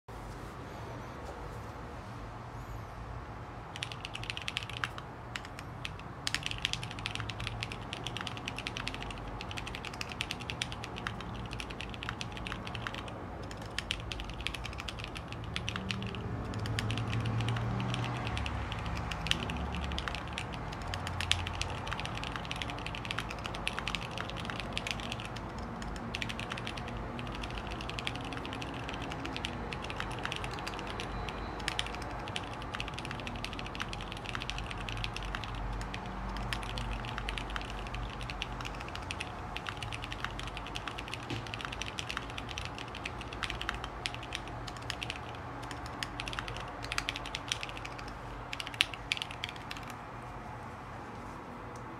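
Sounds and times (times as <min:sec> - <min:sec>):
mechanical keyboard typing: 0:03.7 - 0:50.0.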